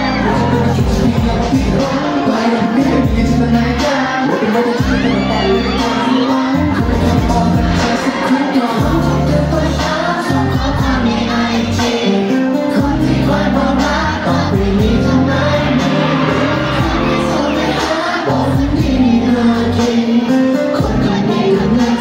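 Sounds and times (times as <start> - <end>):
male voices singing: 0.0 - 22.0
pop music: 0.0 - 22.0.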